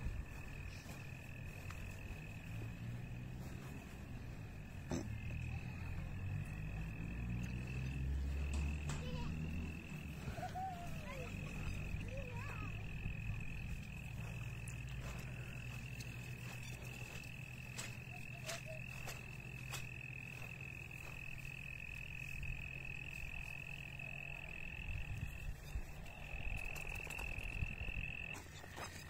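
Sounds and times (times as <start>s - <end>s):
high-pitched frog or insect chorus: 4.6s - 29.0s.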